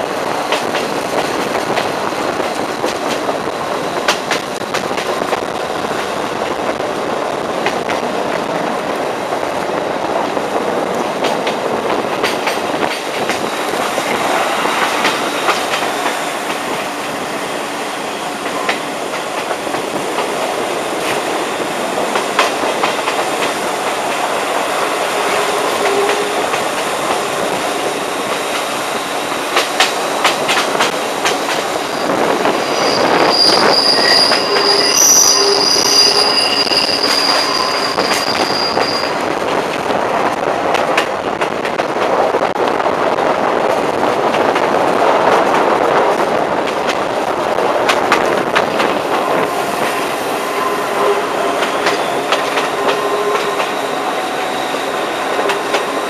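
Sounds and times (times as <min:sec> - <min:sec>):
railcar rolling rumble: 0:00.0 - 0:56.0.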